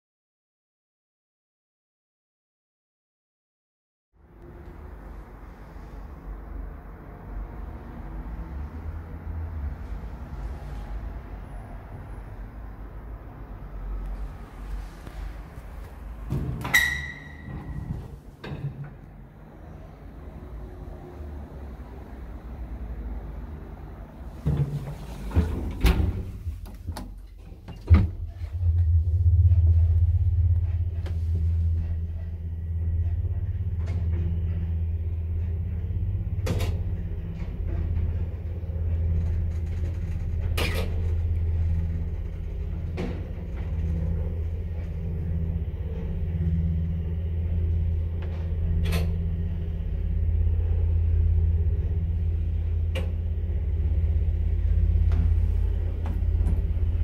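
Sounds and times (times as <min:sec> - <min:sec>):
elevator car rumbling in motion: 0:04.2 - 0:57.0.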